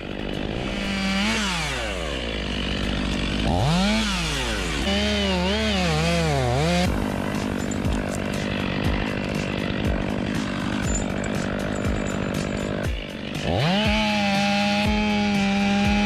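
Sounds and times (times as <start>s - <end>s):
chainsaw engine revving: 0.0s - 16.0s.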